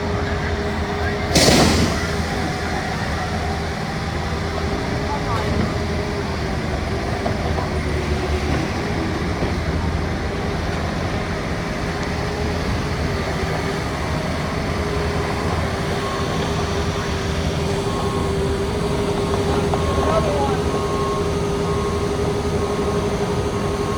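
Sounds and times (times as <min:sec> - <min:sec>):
heavy machinery rumble and whine: 0:00.0 - 0:23.9.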